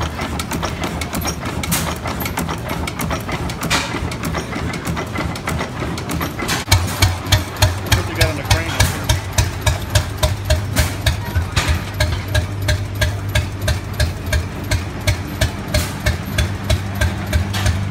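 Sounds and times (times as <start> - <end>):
stationary engine clattering: 0.0 - 17.9
tractor engine driving past: 0.0 - 17.9.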